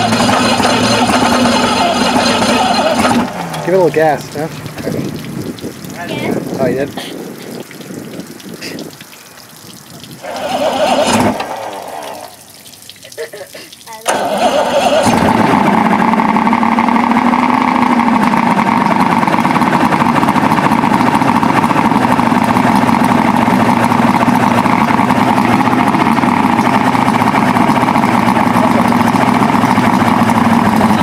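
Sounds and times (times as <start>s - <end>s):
outboard engine starting and running: 0.0s - 12.9s, 13.8s - 31.0s.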